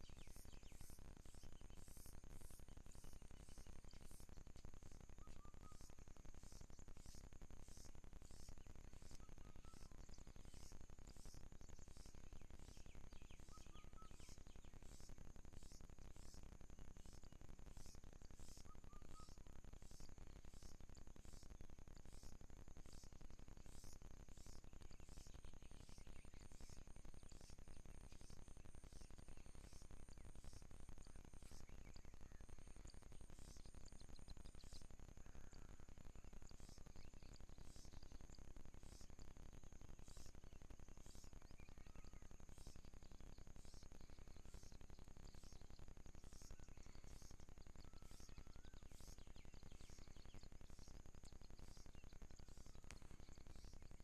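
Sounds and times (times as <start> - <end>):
faint bird chirps: 0.0 - 54.0
insects droning: 0.0 - 54.0.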